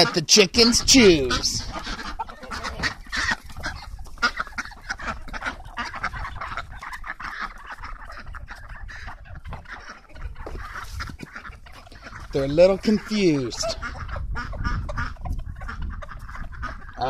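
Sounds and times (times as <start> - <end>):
ducks and chickens calling: 0.0 - 17.0.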